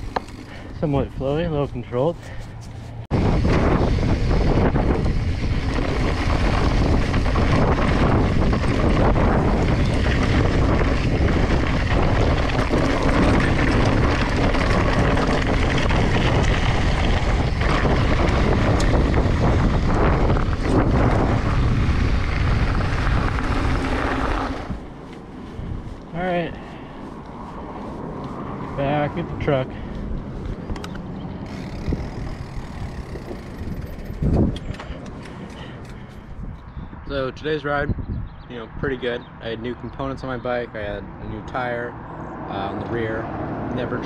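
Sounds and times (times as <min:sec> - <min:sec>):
bike rattling: 0:00.0 - 0:36.9
wind rushing over microphone: 0:00.0 - 0:44.0.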